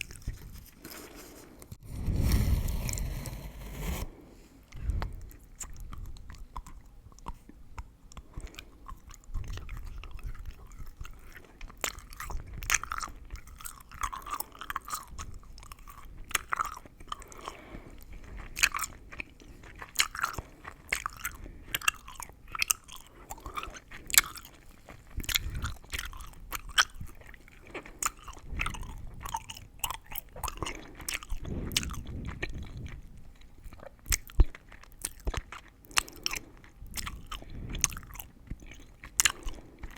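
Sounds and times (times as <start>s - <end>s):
crackles and clicks of gum: 4.7s - 39.9s
gum chewing: 4.7s - 39.9s.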